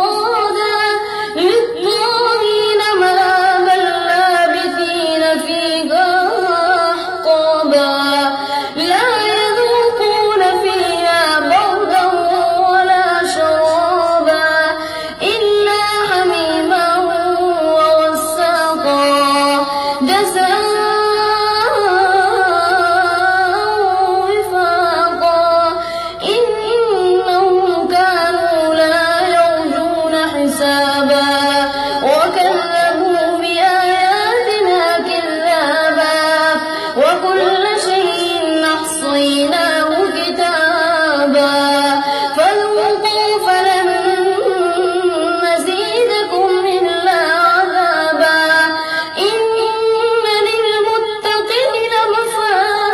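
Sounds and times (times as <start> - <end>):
boy chanting melodically: 0.0 - 52.9.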